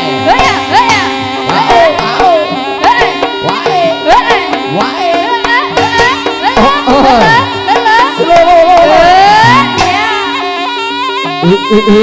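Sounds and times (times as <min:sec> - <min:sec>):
hand drum strokes: 0:00.0 - 0:12.0
reedy wavering melody: 0:00.0 - 0:12.0.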